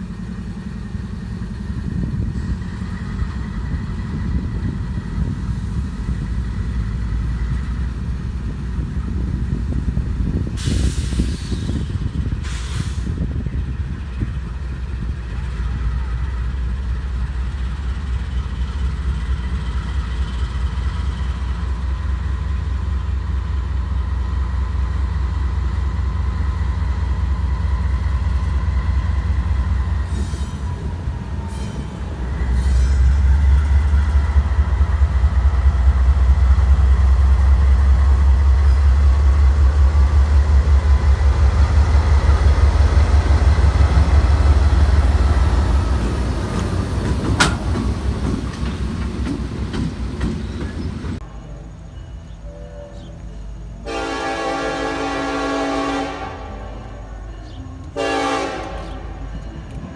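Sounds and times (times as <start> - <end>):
freight locomotives rumbling: 0.0 - 59.9.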